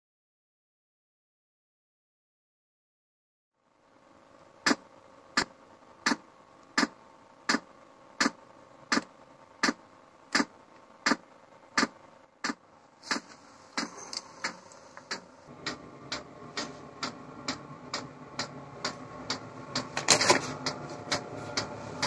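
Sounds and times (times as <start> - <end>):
heater hum: 3.6 - 22.0
high whine: 3.6 - 22.0.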